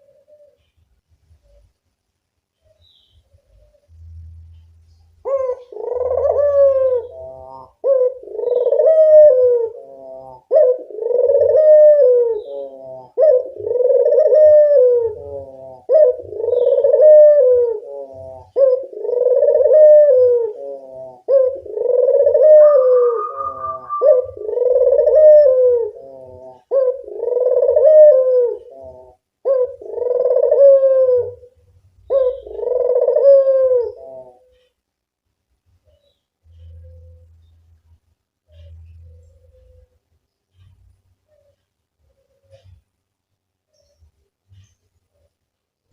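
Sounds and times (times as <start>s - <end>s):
dove cooing: 0.0s - 0.8s, 2.7s - 34.8s, 35.8s - 42.9s.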